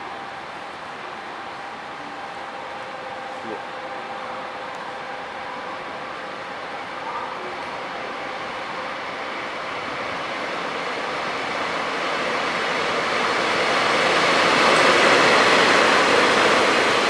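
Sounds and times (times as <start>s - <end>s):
diesel locomotive engine: 0.0s - 17.0s
train wheel noise: 0.0s - 17.0s.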